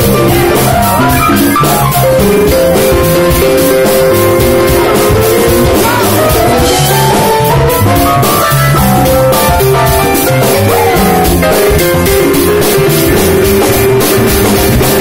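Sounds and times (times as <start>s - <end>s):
drums and hand percussion: 0.0s - 15.0s
live band dance music: 0.0s - 15.0s.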